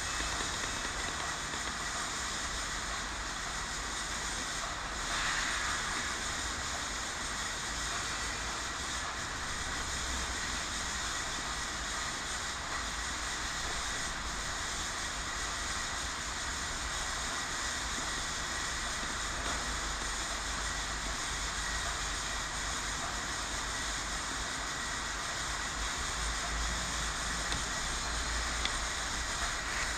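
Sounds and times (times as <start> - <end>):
steady background hiss: 0.0 - 29.9.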